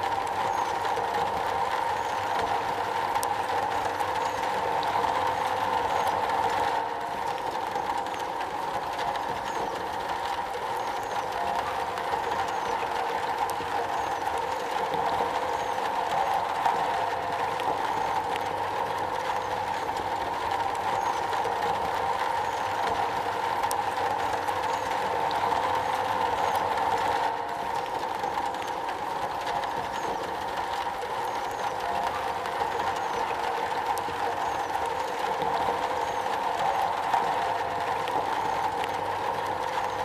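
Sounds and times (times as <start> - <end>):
rain drumming on a metal roof: 0.0 - 40.0.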